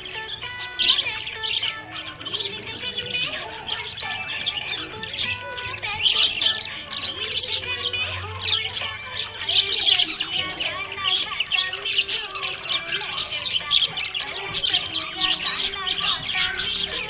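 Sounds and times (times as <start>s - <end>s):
parrots chirping and squawking: 0.0s - 17.0s.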